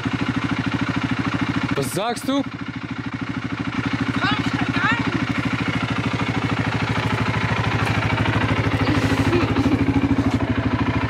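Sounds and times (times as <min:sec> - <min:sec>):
quad bike engine idling: 0:00.0 - 0:11.0.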